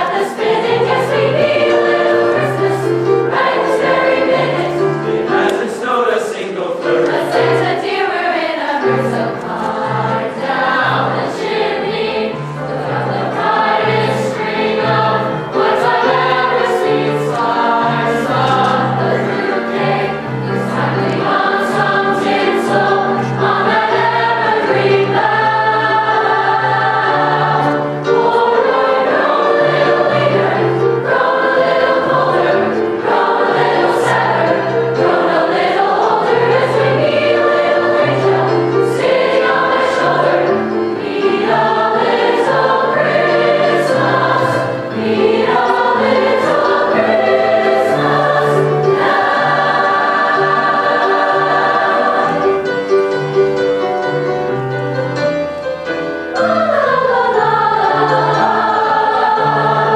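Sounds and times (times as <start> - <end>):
choir singing: 0.0 - 54.1, 55.9 - 59.9.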